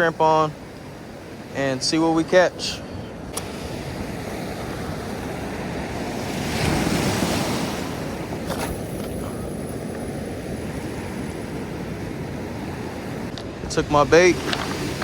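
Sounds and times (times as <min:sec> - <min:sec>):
waves washing onto rocky beach: 0:00.0 - 0:15.0
wind on microphone: 0:00.6 - 0:15.0.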